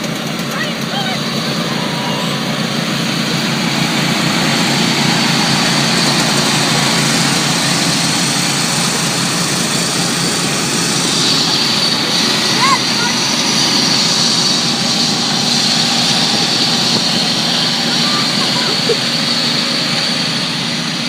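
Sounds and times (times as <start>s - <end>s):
lawn mower engines running: 0.0s - 21.0s.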